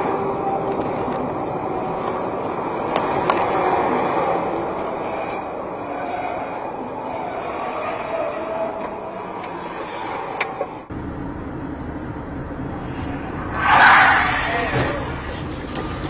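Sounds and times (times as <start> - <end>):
road and traffic noise: 0.0 - 16.0.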